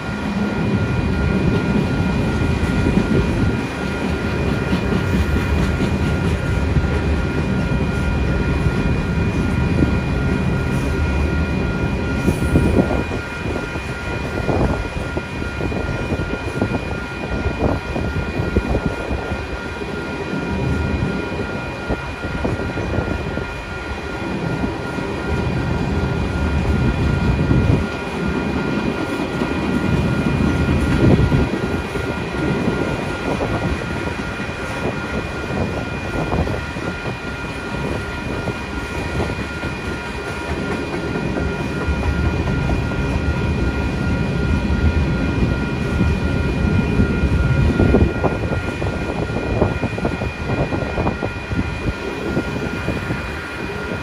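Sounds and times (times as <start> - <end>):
crossing bell ringing: 0.0 - 54.0
train wheels rumbling on rails: 0.0 - 54.0.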